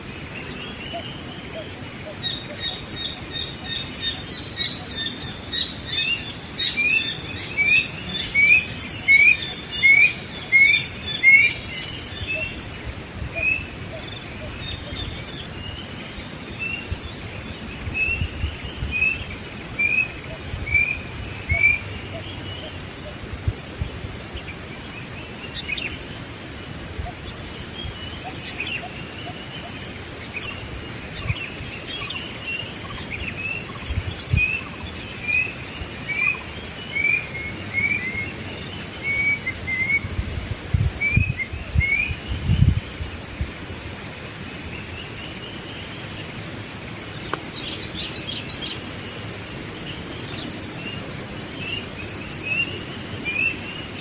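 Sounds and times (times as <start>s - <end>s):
birds chirping: 0.0s - 43.4s, 44.4s - 54.0s
high insect drone: 0.0s - 54.0s.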